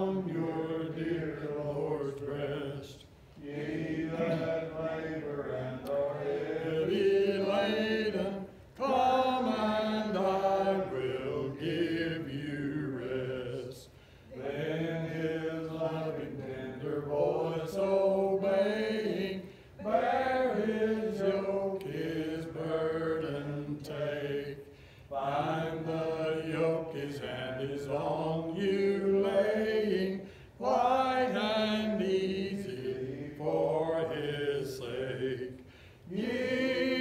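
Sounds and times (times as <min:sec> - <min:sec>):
congregation singing a hymn: 0:00.0 - 0:37.0.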